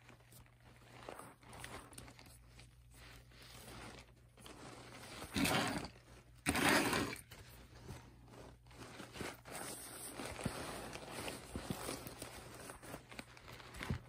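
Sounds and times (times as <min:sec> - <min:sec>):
bag rustling and rubbing: 0:00.0 - 0:14.0
scraping rustles: 0:00.0 - 0:14.0.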